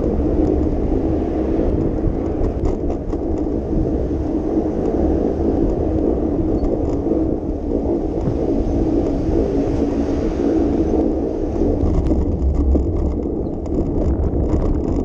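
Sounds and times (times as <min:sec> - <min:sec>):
bicycle tyre and road noise: 0:00.0 - 0:15.0
wind on microphone: 0:00.0 - 0:15.0.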